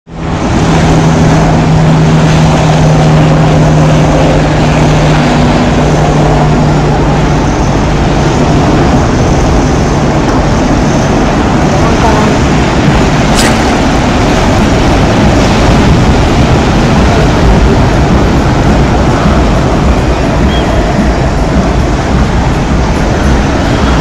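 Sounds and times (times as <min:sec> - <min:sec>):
motorboat engine hum: 0:00.1 - 0:24.0
rushing water: 0:00.1 - 0:24.0
rushing wind: 0:00.1 - 0:24.0.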